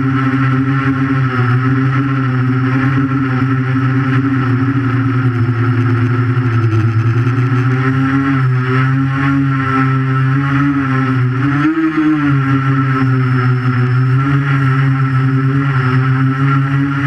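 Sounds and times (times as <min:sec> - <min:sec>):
quadcopter propellers buzzing: 0:00.0 - 0:17.0.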